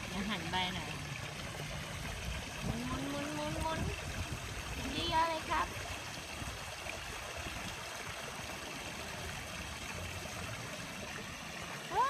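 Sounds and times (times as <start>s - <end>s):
swimming pool water noise: 0.0s - 12.0s.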